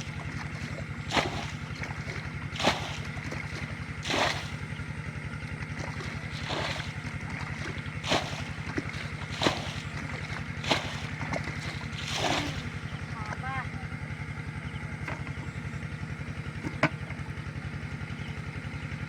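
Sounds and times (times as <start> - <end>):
small boat engine chugging: 0.0 - 19.0.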